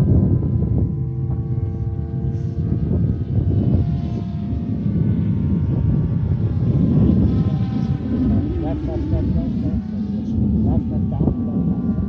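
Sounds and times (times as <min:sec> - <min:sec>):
low rumble: 0:00.0 - 0:12.0
model airplane motor whine: 0:00.0 - 0:12.0.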